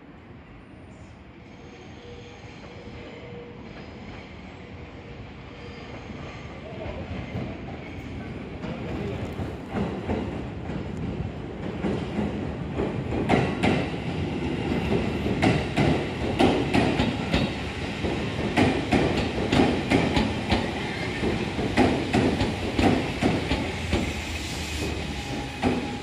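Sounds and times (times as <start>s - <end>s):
electric train rolling slowly: 0.1s - 26.0s.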